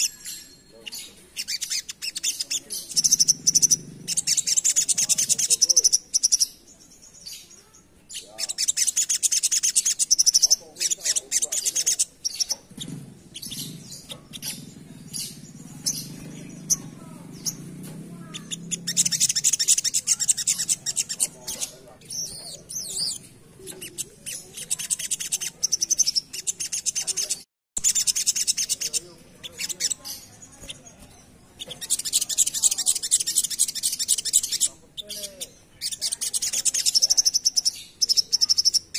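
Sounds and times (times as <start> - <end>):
songbird chattering song: 0.0 - 38.9.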